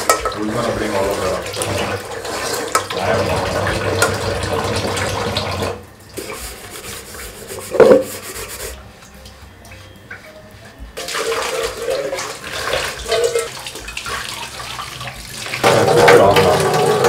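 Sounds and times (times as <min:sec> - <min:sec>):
hand scrubbing cooking pot: 0:00.0 - 0:08.8, 0:10.6 - 0:17.0
tap water running into sink: 0:00.0 - 0:08.8, 0:11.0 - 0:17.0.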